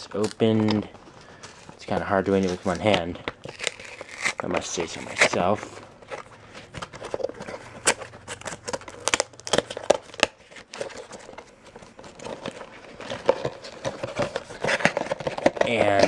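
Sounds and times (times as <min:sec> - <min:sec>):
cardboard and plastic crinkling: 0:00.0 - 0:16.0.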